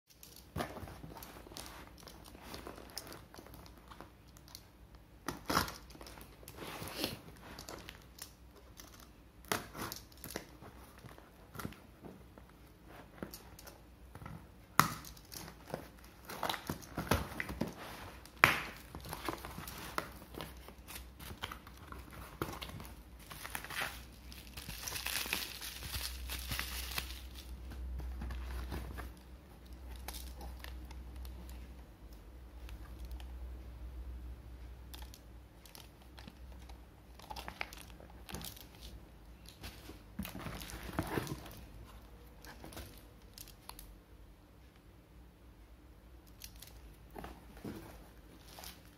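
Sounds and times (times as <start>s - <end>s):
cardboard and plastic rustling: 0.1s - 4.6s, 5.2s - 31.7s, 35.7s - 43.7s, 46.4s - 48.9s.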